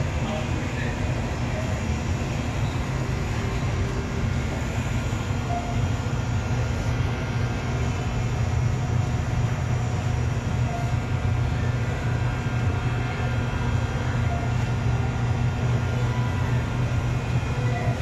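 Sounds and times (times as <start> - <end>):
low indoor store rumble: 0.0 - 18.0.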